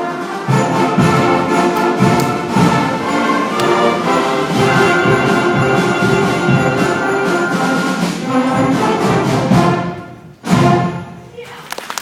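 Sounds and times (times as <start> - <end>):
school ensemble with brass: 0.0 - 11.3.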